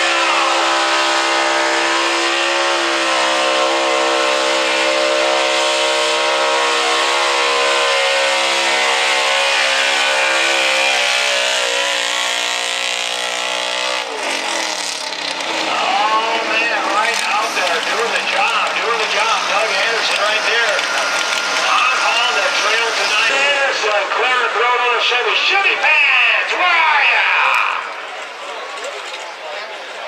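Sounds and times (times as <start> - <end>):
pickup truck engine at high revs: 0.0 - 24.3.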